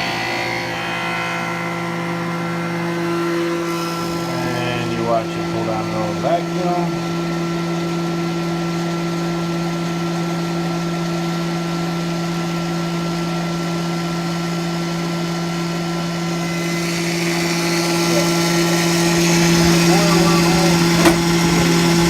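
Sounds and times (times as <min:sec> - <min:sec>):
vacuum pump humming: 0:00.0 - 0:22.0.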